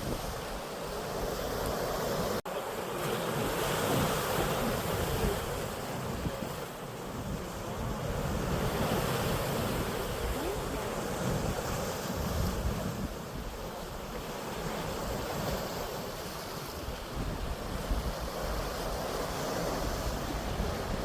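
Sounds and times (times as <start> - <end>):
wind buffeting microphone: 0.0 - 2.4, 3.4 - 21.0
sea waves washing: 0.0 - 21.0.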